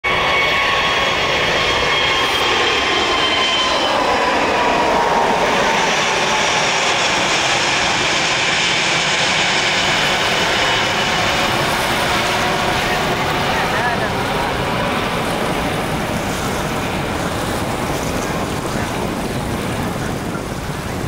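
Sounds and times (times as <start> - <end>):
jet airliner roar: 0.0 - 21.0.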